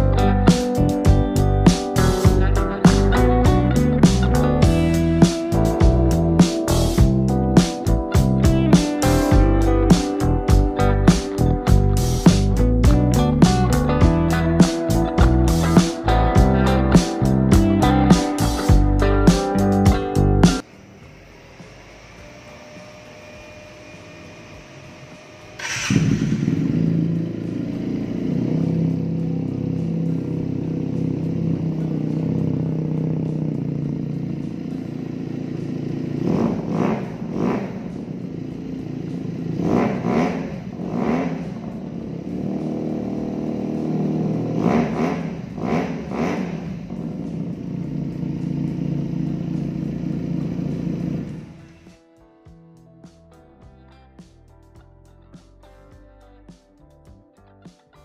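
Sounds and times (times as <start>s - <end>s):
motorcycle engine idling and revving: 0.0s - 52.0s.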